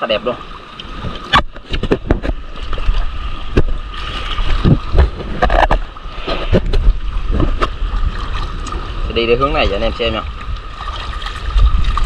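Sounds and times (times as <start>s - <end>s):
sea water splashing: 0.0s - 12.0s
wind buffeting microphone: 0.7s - 12.0s.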